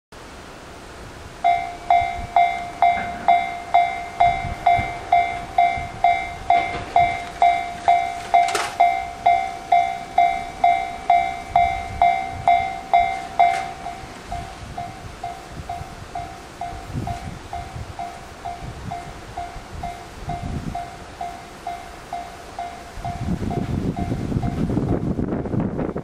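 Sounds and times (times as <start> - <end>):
level crossing bell clanging: 1.4 - 24.6.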